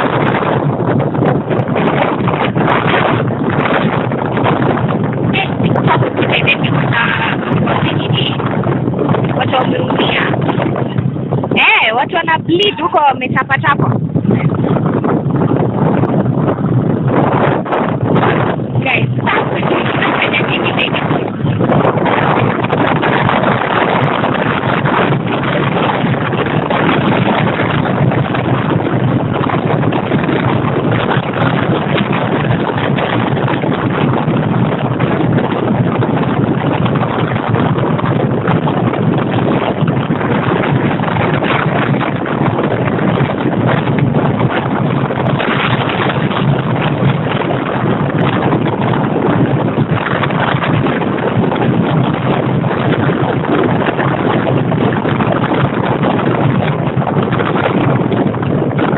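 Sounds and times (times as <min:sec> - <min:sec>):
motorcycle running: 0:00.0 - 0:58.9
wind rushing over microphone: 0:00.0 - 0:58.9.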